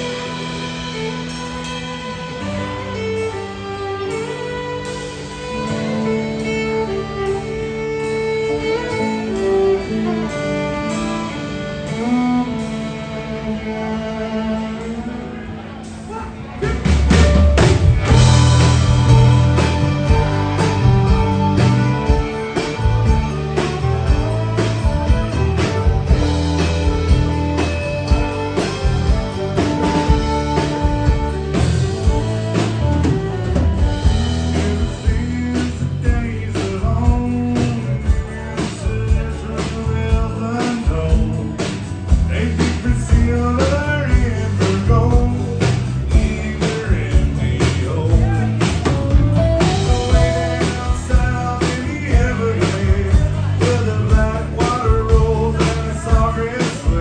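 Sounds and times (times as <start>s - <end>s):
country rock band playing: 0.0s - 57.0s
person singing: 0.0s - 57.0s.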